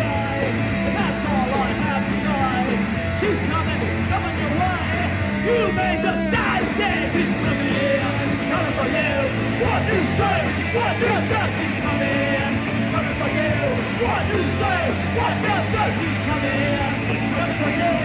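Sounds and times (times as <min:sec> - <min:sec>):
crowd chatter: 0:00.0 - 0:18.0
rock music: 0:00.0 - 0:18.0.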